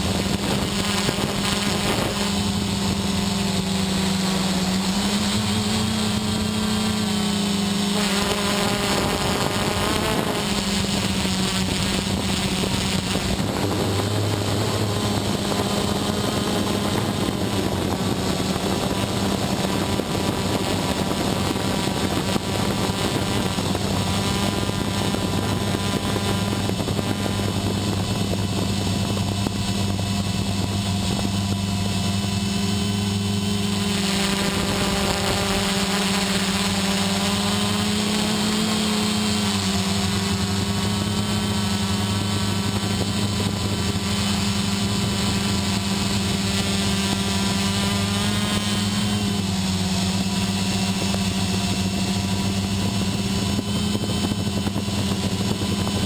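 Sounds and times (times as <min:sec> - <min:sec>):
quadcopter propellers humming: 0:00.0 - 0:56.0.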